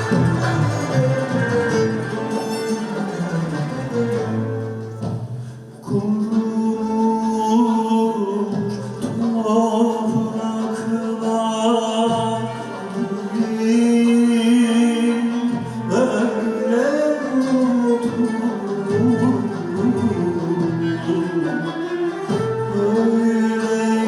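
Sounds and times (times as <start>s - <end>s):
string accompaniment: 0.0s - 24.0s.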